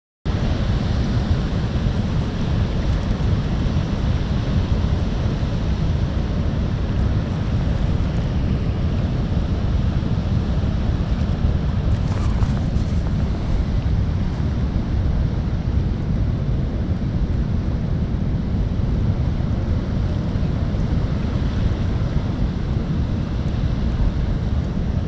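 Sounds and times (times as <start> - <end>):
wind buffeting microphone: 0.3 - 25.0.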